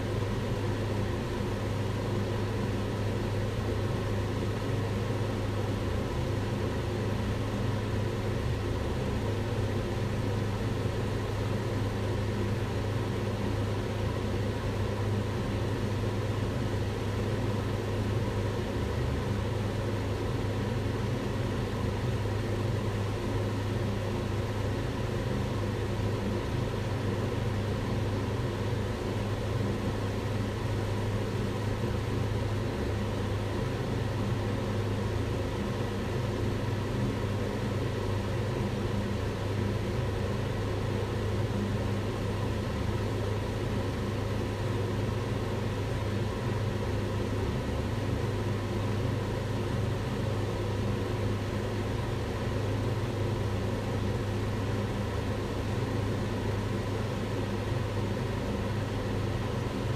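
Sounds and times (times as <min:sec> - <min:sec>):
extractor hood fan running: 0:00.0 - 0:59.9.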